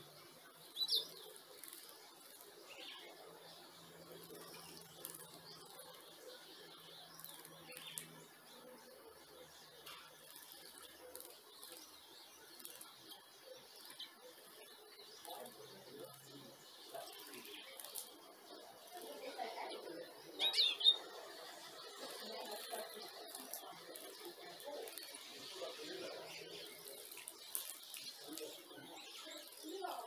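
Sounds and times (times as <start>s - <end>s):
faint ticks and flutters: 0.0s - 30.0s.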